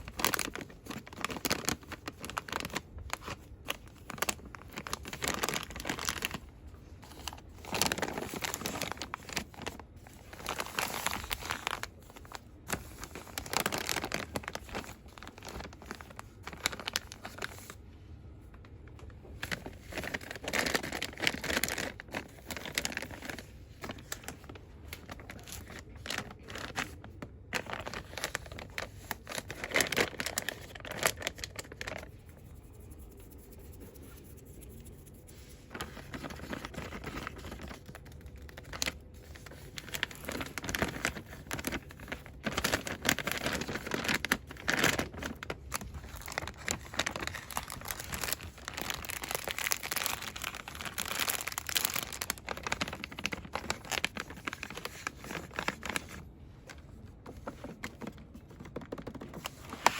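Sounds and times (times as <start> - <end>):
packaging crinkling and rustling: 0.0 - 32.3, 35.3 - 59.9.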